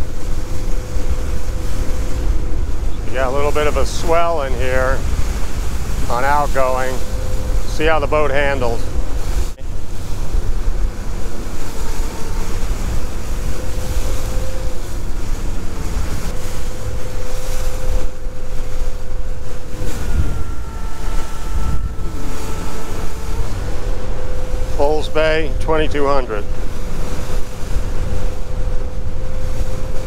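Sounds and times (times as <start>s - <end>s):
faint high engine whine: 0.0s - 30.0s
outboard motor droning: 0.0s - 30.0s
water rushing along hull: 0.0s - 30.0s
wind buffeting microphone: 0.0s - 30.0s.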